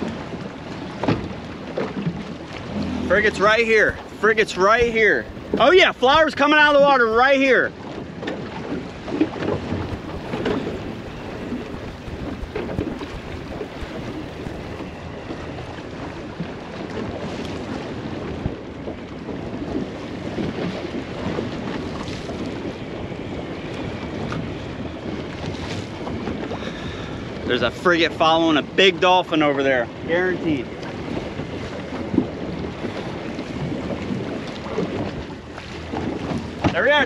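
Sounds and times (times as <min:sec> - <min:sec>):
choppy sea: 0:00.0 - 0:37.0
water splashing against a hull: 0:00.0 - 0:37.0
wind buffeting the microphone: 0:00.0 - 0:37.0.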